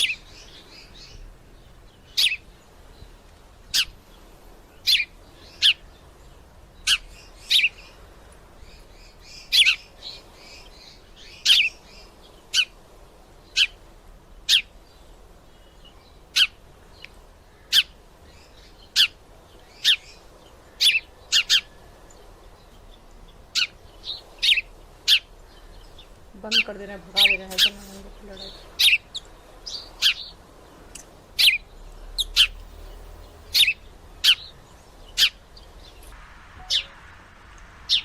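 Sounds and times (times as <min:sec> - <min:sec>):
sparrow chirping: 0:00.0 - 0:38.0.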